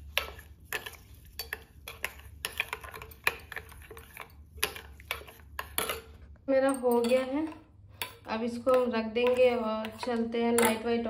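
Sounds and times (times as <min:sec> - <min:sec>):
spoon clinking against steel bowl: 0:00.1 - 0:11.0.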